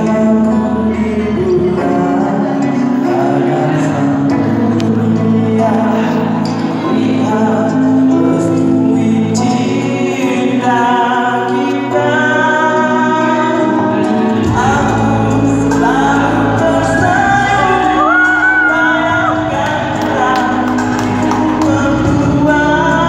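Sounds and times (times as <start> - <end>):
backing music through speakers: 0.0 - 23.0
man singing into microphone: 0.0 - 23.0.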